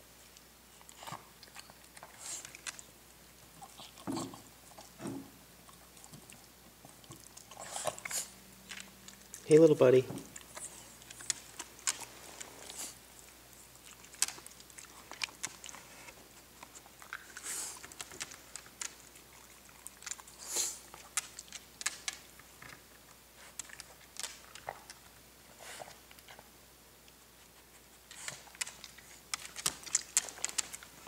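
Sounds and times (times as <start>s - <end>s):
dog chewing and licking: 0.2s - 26.5s, 27.6s - 31.0s.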